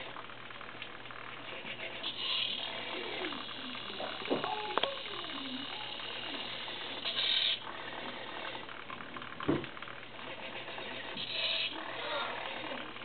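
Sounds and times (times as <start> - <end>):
servos whirring: 1.4 - 9.4, 10.2 - 13.0.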